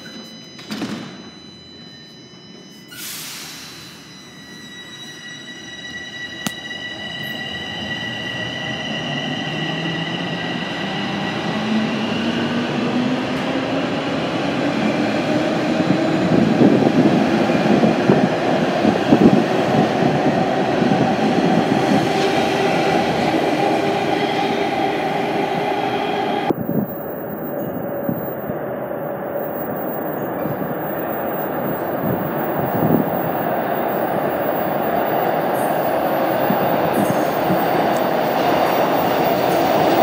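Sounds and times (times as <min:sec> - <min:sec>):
subway cars rumbling: 0:00.0 - 0:40.0.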